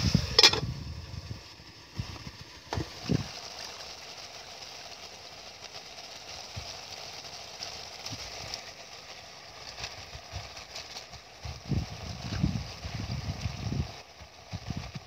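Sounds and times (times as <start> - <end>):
gas stove hissing: 0.0 - 15.0.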